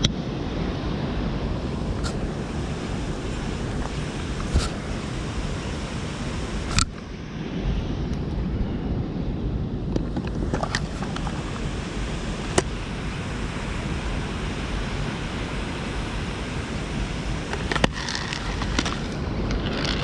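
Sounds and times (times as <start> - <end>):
flowing water: 0.0 - 7.1, 10.0 - 20.0
wind buffeting microphone: 0.0 - 20.0.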